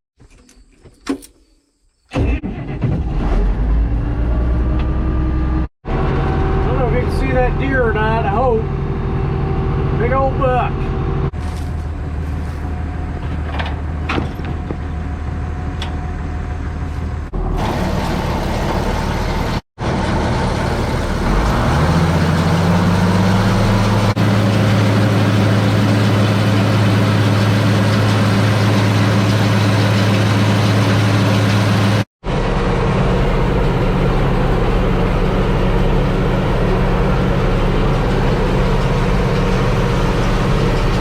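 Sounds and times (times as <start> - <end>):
tractor engine running: 5.9 - 41.0.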